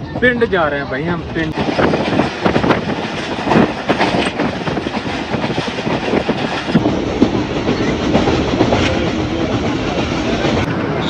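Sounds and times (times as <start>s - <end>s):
train rushing rumble: 0.0s - 11.0s
train wheels clattering over rail joints: 1.4s - 10.7s.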